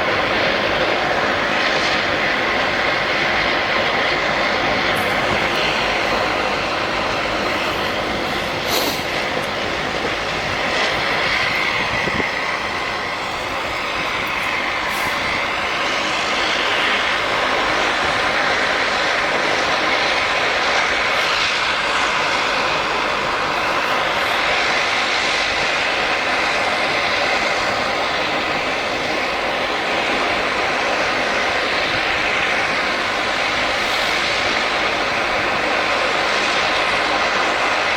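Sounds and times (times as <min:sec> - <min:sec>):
aircraft engines running: 0:00.0 - 0:37.9.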